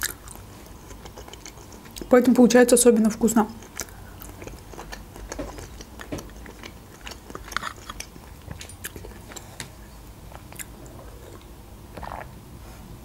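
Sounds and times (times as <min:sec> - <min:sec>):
wet chewing: 0:00.0 - 0:02.2, 0:03.5 - 0:12.3.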